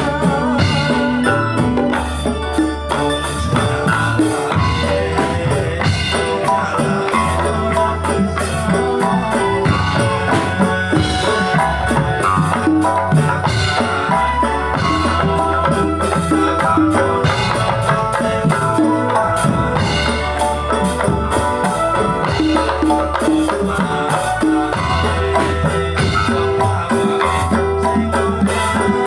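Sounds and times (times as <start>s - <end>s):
folk music with drums and rattles: 0.0s - 29.0s.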